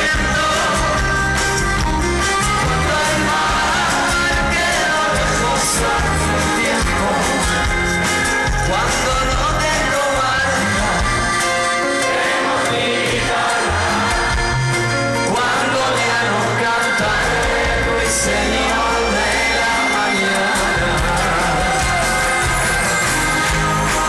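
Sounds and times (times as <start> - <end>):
live pop-rock band music: 0.0 - 24.0.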